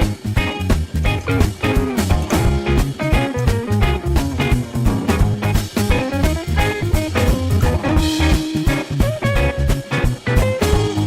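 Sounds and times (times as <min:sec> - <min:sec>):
guitar instrumental with drum beat: 0:00.0 - 0:11.0.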